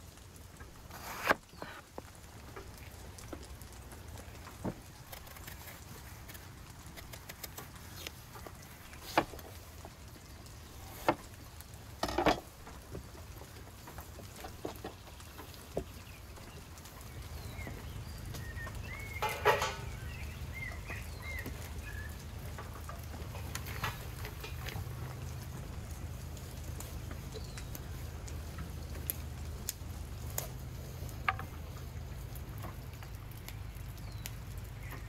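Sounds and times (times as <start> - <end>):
birds chirping: 0.7 - 35.0.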